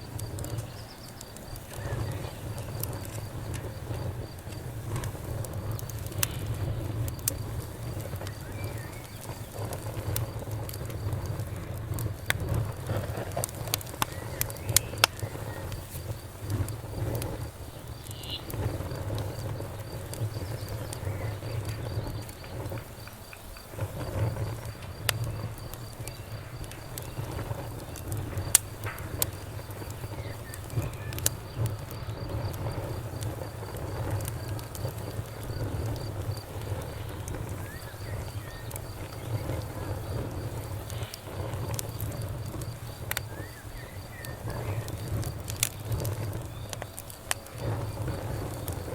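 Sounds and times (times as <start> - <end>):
campfire crackling and popping: 0.0 - 48.9
crickets chirping: 0.0 - 48.9.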